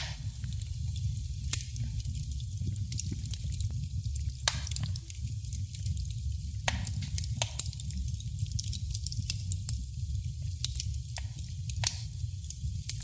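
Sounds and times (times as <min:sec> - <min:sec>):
low rumble of flames: 0:00.0 - 0:13.0
sharp snaps and pops of fire: 0:00.0 - 0:13.0
wood fire crackling: 0:00.0 - 0:13.0.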